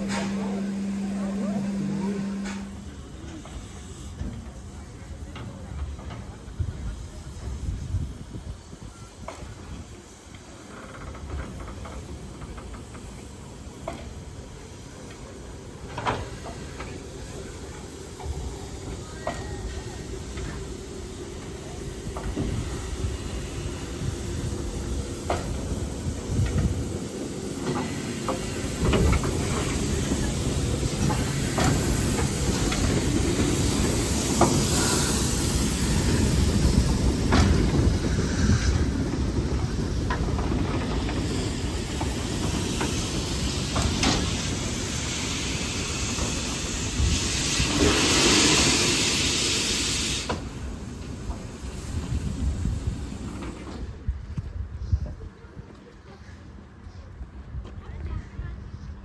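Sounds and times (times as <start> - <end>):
steam hissing: 0.0 - 54.1
loud rush of steam: 0.0 - 55.0.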